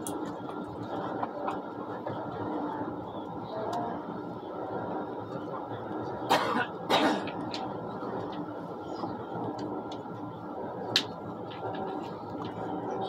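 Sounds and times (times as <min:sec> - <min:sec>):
train running noise inside car: 0:00.0 - 0:13.0.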